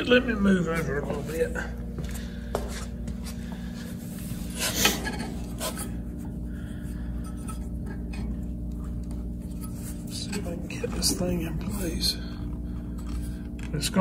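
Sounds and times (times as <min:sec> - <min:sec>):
heater humming: 0:00.0 - 0:14.0.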